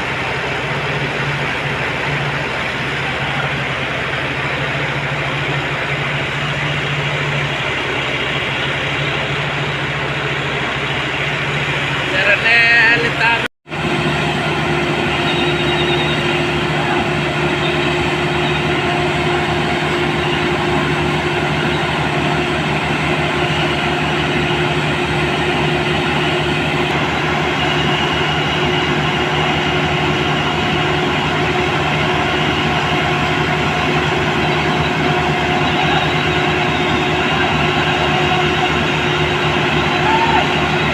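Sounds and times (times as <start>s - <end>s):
heavy machinery droning: 0.0s - 40.9s.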